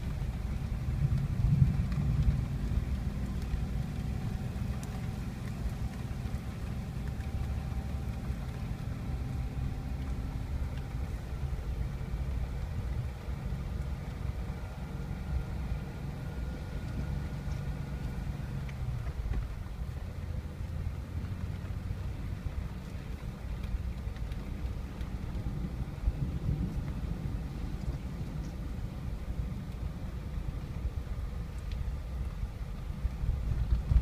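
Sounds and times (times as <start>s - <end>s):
engine and tyres rumbling: 0.0s - 34.0s
faint steady engine tones: 0.0s - 34.0s.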